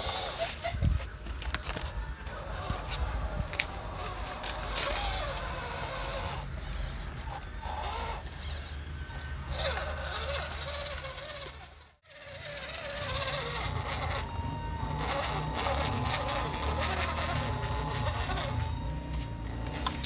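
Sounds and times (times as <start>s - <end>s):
small electric motors whirring: 0.0s - 20.0s
wheels crawling over gravel: 0.0s - 20.0s.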